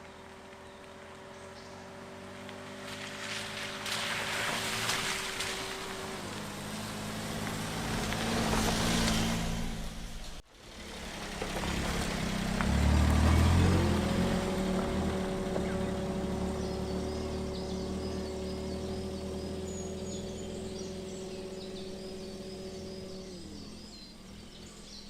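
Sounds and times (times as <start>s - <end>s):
van engine running: 0.0s - 25.0s.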